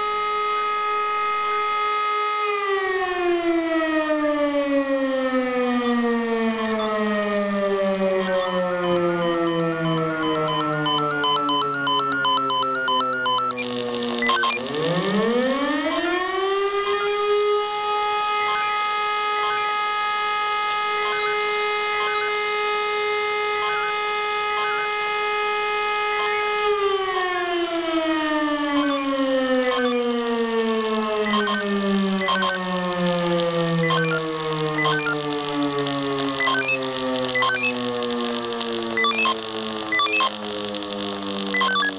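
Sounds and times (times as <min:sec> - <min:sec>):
electric motor siren wailing: 0:00.0 - 0:41.9.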